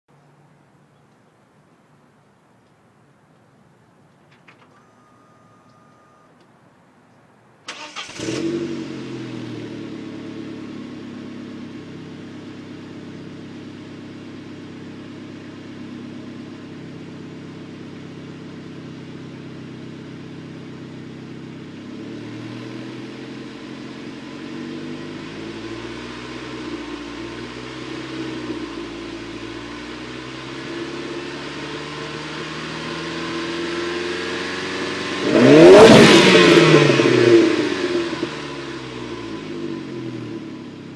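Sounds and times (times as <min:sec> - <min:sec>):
car engine idling and revving: 0:07.7 - 0:40.9.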